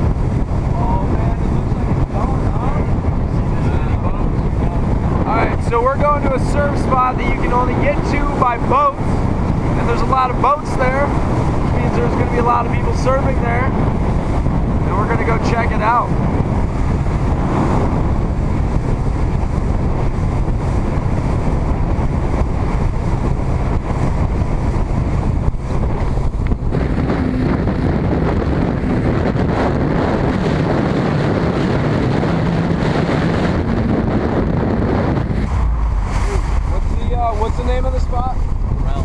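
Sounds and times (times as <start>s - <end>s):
motorboat engine running: 0.0s - 39.0s
water rushing against hull: 0.0s - 39.0s
wind buffeting microphone: 0.0s - 39.0s.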